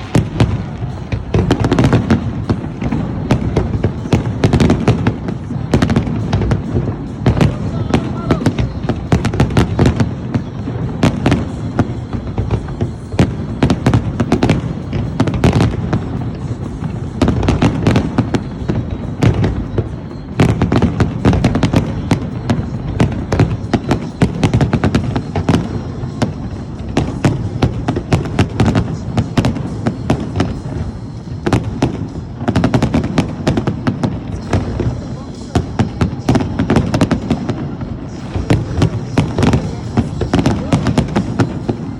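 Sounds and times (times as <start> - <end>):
fireworks cracking and booming: 0.0 - 41.9.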